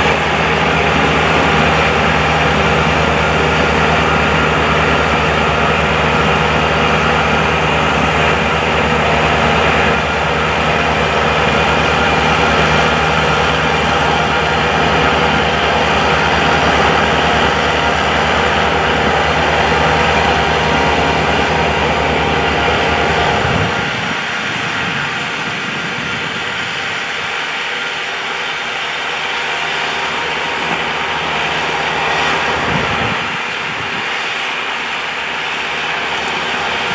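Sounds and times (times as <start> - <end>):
engine humming: 0.0 - 36.9
rushing noise: 0.0 - 36.9.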